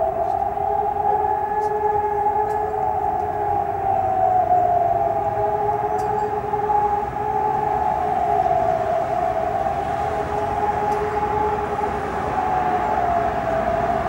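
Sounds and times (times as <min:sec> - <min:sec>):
siren steady held tone: 0:00.0 - 0:14.0.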